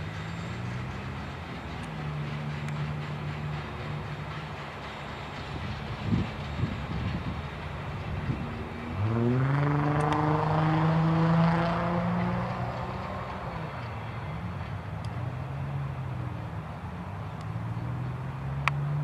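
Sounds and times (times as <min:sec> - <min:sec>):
diesel locomotive engine revving: 0:00.0 - 0:19.0
train clunks: 0:00.0 - 0:19.0.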